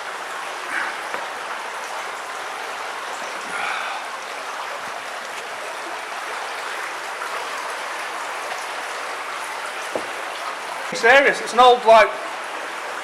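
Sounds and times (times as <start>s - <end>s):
water rushing through a drain: 0.0s - 13.0s.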